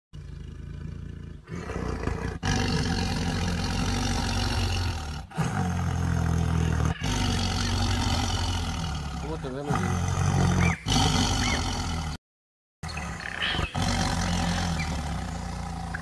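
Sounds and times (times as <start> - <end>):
big cat growling and roaring: 0.2 - 12.2, 12.9 - 16.0.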